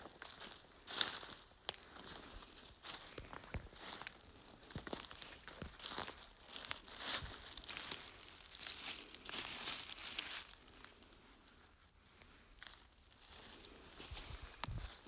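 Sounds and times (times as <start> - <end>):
footsteps crunching dry leaves: 0.0 - 11.1, 12.5 - 15.0.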